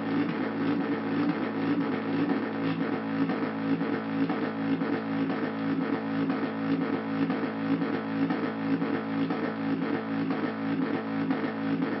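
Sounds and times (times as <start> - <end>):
low synthesizer drone: 0.0 - 12.0.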